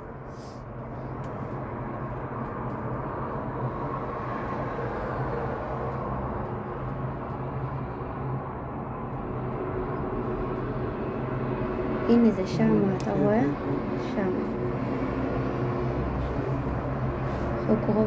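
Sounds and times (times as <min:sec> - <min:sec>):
cable car cabin hum and rumble: 0:00.0 - 0:18.0.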